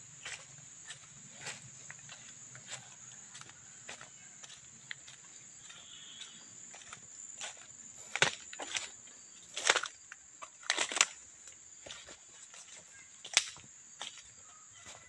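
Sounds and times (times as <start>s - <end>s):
footsteps crunching on dry leaves: 0.0s - 15.0s
insects droning: 0.0s - 15.0s.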